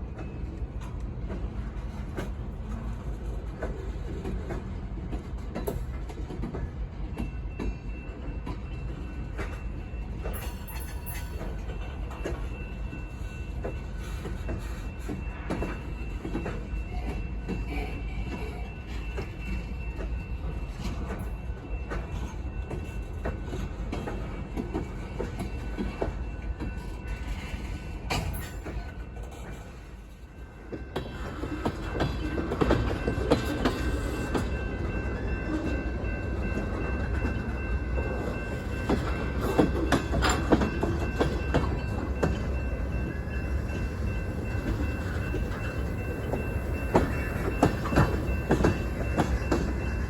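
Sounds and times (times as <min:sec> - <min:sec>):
freight train rumble: 0:00.0 - 0:50.0.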